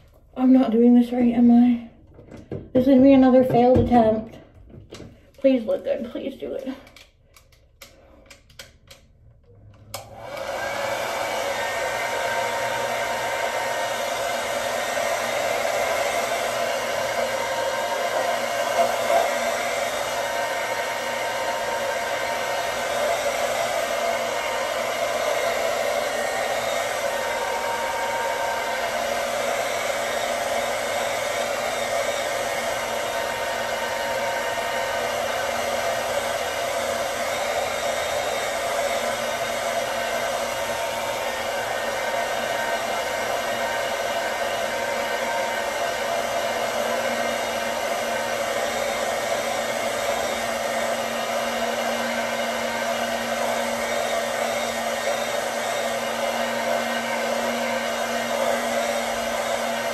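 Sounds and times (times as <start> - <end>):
hair dryer blowing: 0.0 - 59.9.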